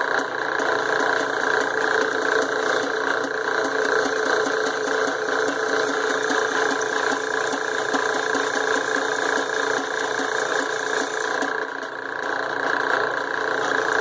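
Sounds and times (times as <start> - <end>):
drill press drilling into steel: 0.0 - 14.0.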